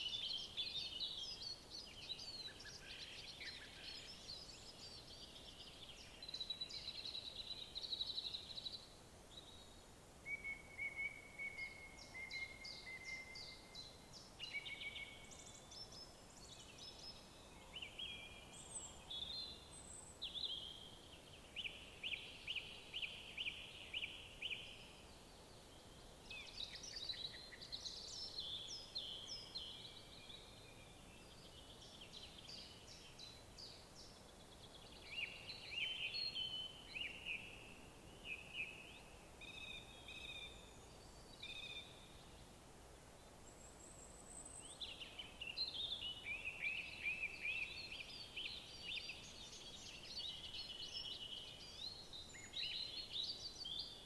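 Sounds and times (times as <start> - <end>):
songbirds singing: 0.0 - 42.6, 43.2 - 54.0
faint steady background hiss: 0.0 - 54.0.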